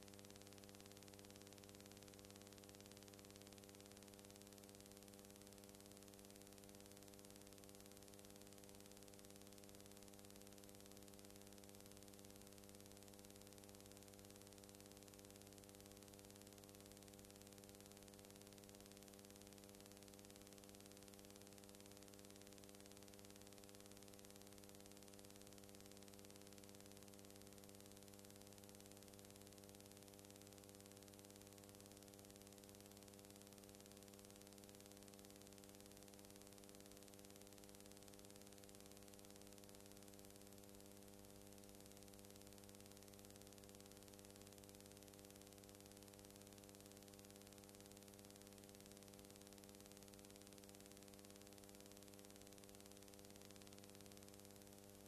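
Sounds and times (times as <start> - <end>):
faint electrical hum with hiss: 0.0 - 55.0.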